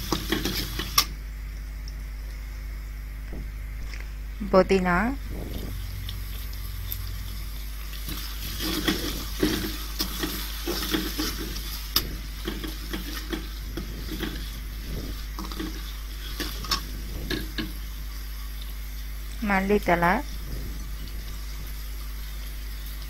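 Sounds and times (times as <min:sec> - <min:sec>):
soft sizzle of frying: 0:00.0 - 0:23.0.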